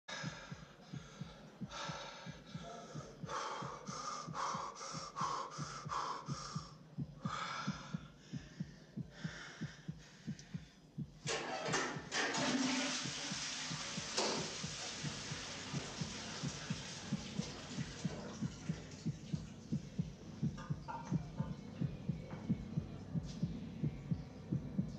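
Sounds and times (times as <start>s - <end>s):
heartbeat: 0.1s - 24.9s.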